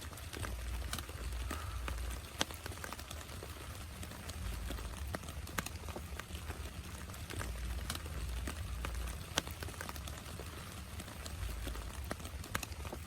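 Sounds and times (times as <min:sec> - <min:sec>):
raindrops tapping: 0:00.0 - 0:13.0
steady rain hiss: 0:00.0 - 0:13.0.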